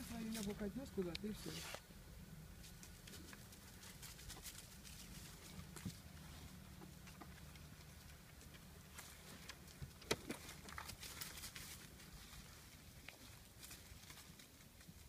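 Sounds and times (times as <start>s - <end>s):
dog paws on dry leaves: 0.0s - 1.8s, 2.6s - 15.0s.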